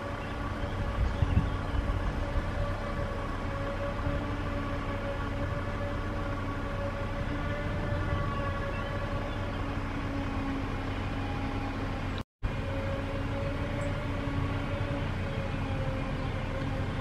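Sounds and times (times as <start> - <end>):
forage harvester mechanical drone: 0.0 - 17.0
tractor engine: 0.0 - 17.0.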